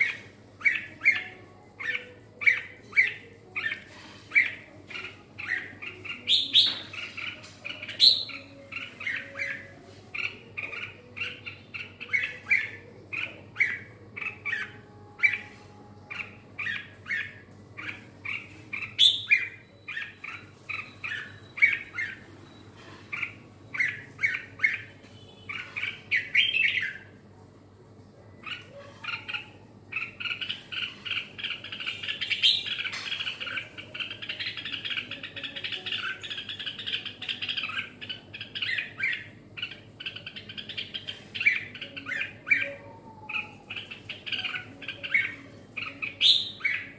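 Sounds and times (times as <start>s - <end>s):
bird chirping: 0.0s - 27.2s, 28.3s - 46.9s.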